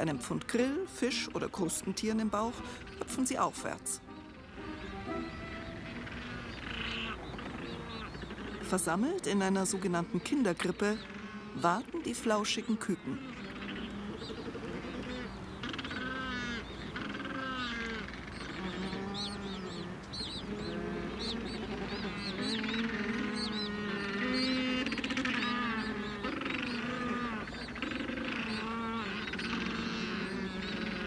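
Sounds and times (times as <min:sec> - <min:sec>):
penguin colony calling: 0:00.0 - 0:31.0.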